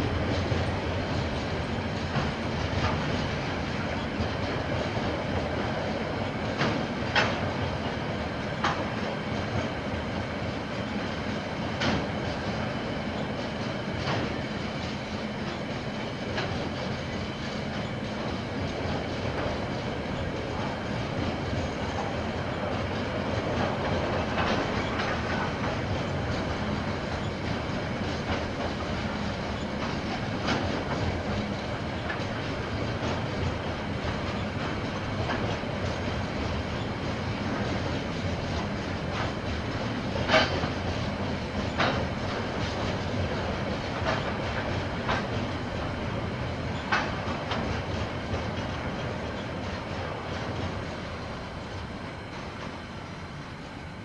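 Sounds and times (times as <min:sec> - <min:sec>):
train wagons rumbling on rails: 0:00.0 - 0:54.0.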